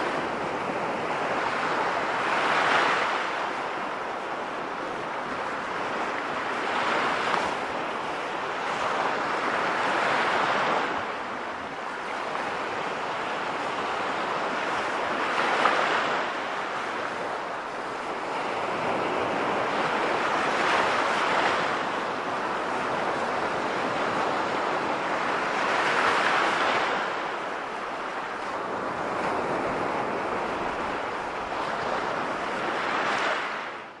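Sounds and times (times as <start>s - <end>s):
sea waves washing on shore: 0.0s - 34.0s.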